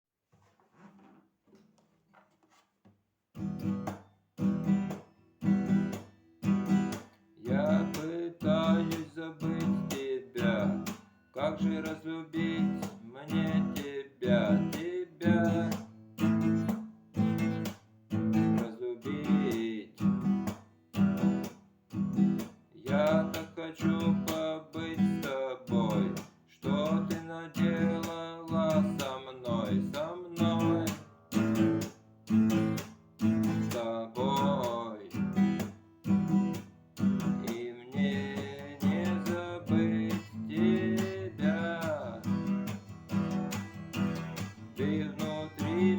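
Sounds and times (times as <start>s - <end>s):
acoustic guitar strumming: 3.4s - 45.9s.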